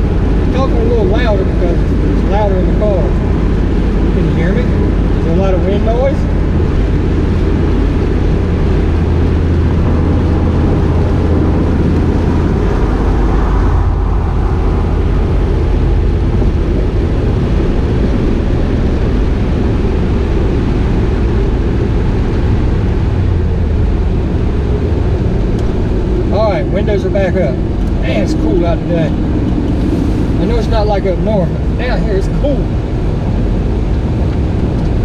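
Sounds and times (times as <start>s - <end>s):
road and engine rumble: 0.0s - 35.0s
wind rushing through car windows: 0.0s - 35.0s.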